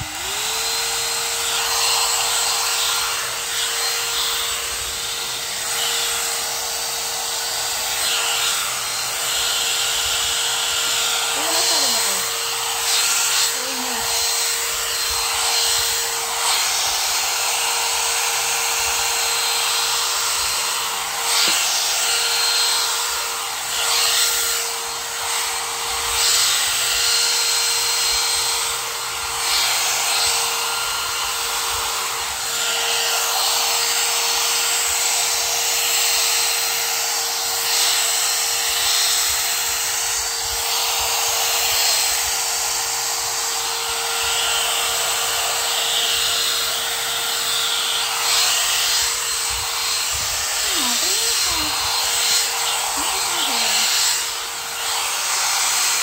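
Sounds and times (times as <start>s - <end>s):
hot-air brush motor whine: 0.0s - 56.0s.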